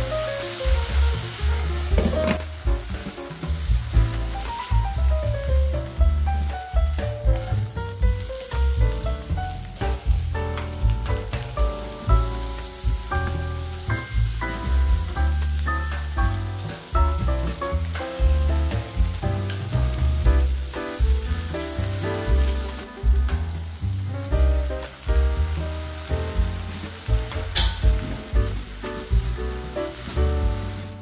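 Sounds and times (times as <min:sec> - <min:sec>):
vegetables sizzling in a frying pan: 0:00.0 - 0:31.0
background music with bass beat: 0:01.0 - 0:31.0.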